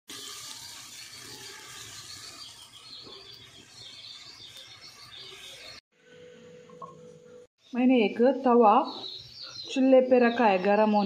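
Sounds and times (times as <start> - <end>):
small birds chirping: 0.3 - 5.8, 7.6 - 11.0.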